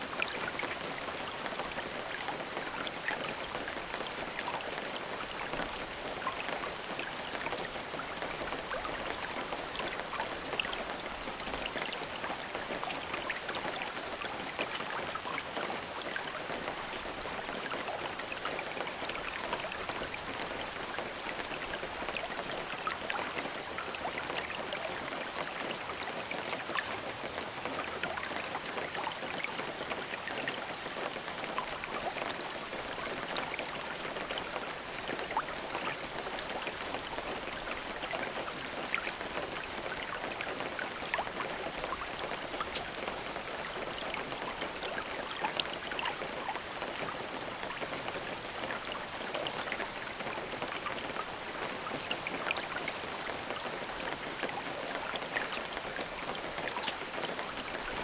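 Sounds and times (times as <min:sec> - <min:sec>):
drips and patters: 0:00.0 - 0:58.0
steady rain hissing: 0:00.0 - 0:58.0.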